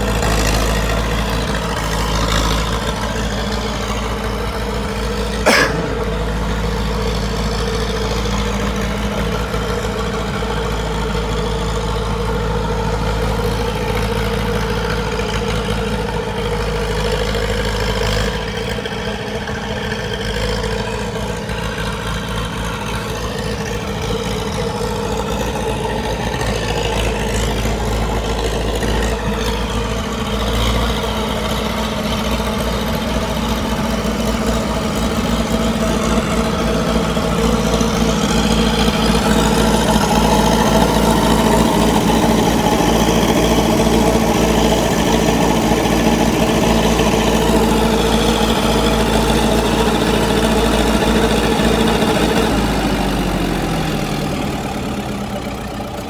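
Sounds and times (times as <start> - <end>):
bulldozer engine running: 0.0 - 56.0.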